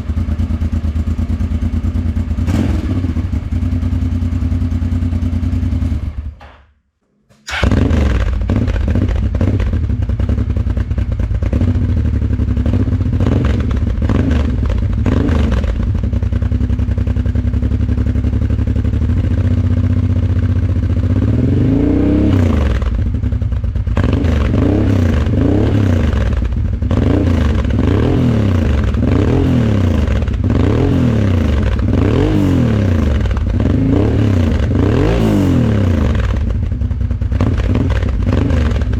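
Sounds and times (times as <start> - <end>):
motorcycle engine idling: 0.0 - 6.3, 7.5 - 21.8, 22.5 - 38.9
motorcycle engine revving: 0.0 - 6.3, 7.5 - 38.9.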